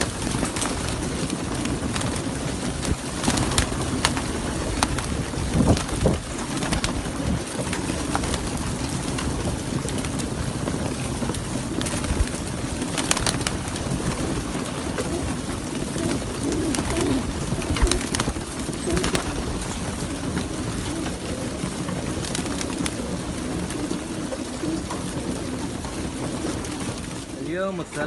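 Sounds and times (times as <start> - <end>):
pigeons cooing: 0.0 - 27.4.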